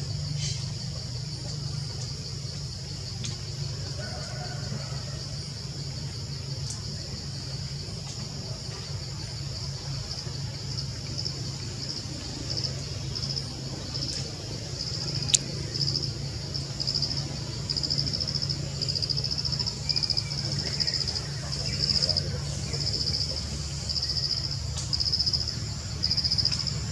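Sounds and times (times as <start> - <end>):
high-pitched insect chorus chirping: 0.0 - 26.9.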